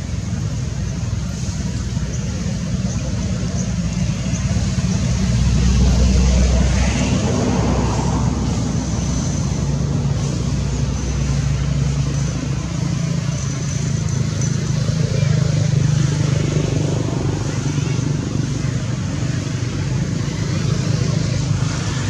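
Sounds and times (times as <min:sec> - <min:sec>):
motor vehicle engine rumbling: 0:00.0 - 0:22.0.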